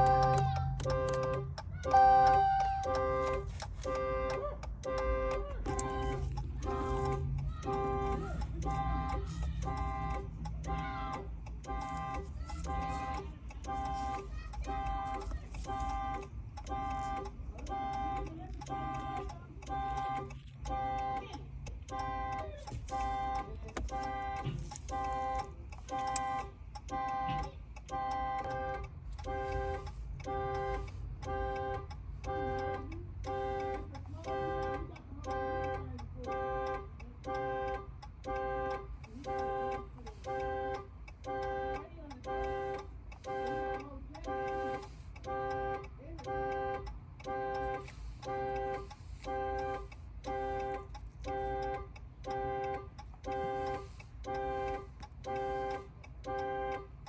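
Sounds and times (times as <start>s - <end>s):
car horn alarm honking: 0.0s - 57.0s.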